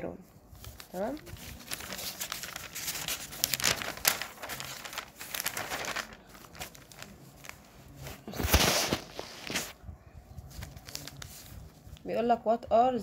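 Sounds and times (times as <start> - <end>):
paper pages rustling: 0.5 - 12.0.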